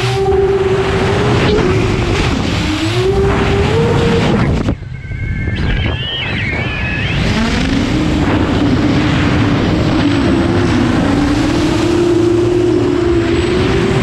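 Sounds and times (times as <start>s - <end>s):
propellers buzzing: 0.0s - 14.0s
quadcopter motors whining: 0.0s - 14.0s.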